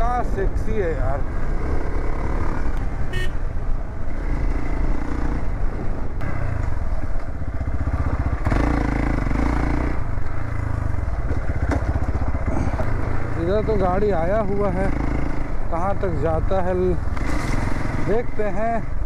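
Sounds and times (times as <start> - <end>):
off-road motorcycle engine running: 0.0 - 19.0.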